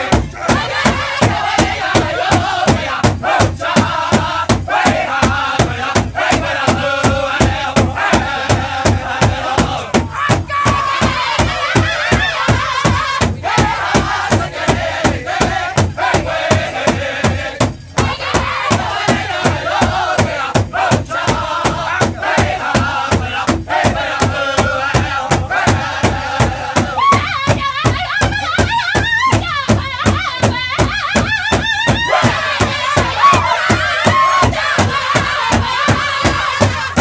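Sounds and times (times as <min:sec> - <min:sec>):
bass drum beating: 0:00.0 - 0:37.0
group singing in high voices: 0:00.0 - 0:37.0.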